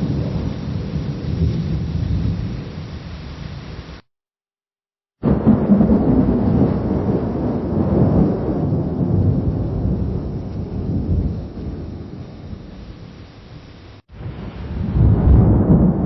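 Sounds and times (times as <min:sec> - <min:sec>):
lightning strike: 0:00.0 - 0:03.6, 0:05.2 - 0:13.2, 0:14.2 - 0:16.0
thunder rolling rumble: 0:00.0 - 0:03.6, 0:05.2 - 0:16.0.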